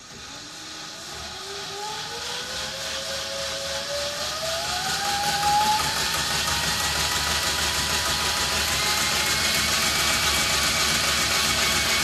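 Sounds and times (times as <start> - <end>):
vibration generator tone rising: 0.0 - 11.7.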